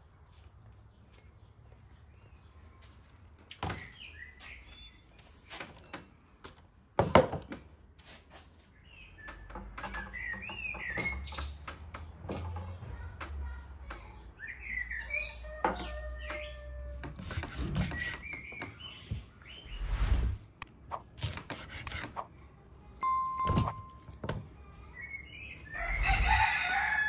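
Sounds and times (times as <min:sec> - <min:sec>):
small birds chirping: 0:00.0 - 0:06.7, 0:08.6 - 0:21.1, 0:24.5 - 0:27.0.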